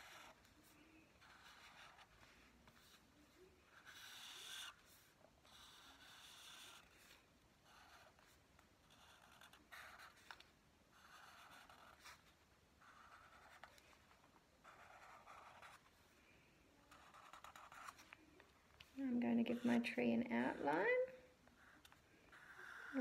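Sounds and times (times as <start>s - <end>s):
marker scratching on paper: 0.0s - 15.9s, 16.9s - 18.1s, 18.8s - 23.0s.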